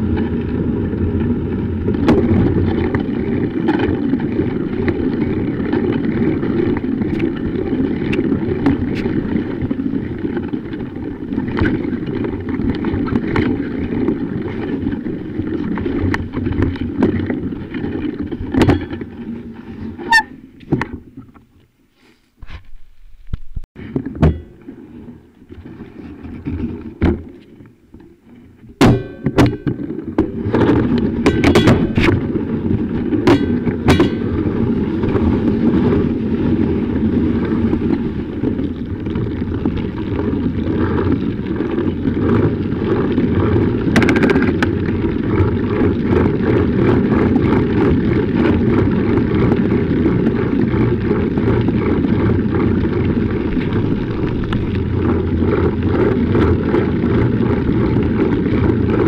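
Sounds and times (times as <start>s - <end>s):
bike rattling over bumps: 0.0s - 21.6s, 22.4s - 59.0s
bicycle rolling over snow: 0.0s - 28.8s, 29.5s - 59.0s.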